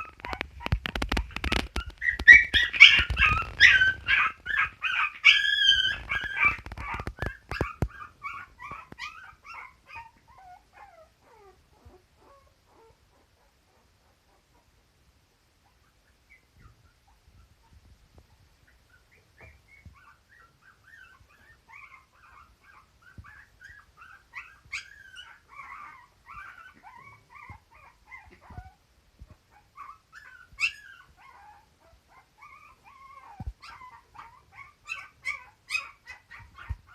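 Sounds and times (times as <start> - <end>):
dog whining: 0.0 - 14.7, 18.9 - 28.8, 29.5 - 36.9
dog yipping: 0.0 - 14.7, 18.7 - 28.8, 29.5 - 36.9.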